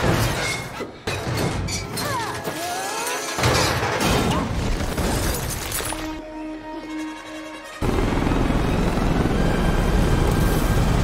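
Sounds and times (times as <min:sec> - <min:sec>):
film score music: 0:00.0 - 0:11.0.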